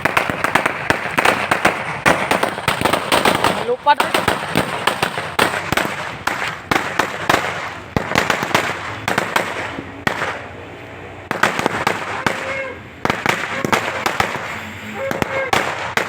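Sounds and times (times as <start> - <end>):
crackling hiss of fireworks: 0.0 - 16.0
fireworks bangs: 0.0 - 16.0.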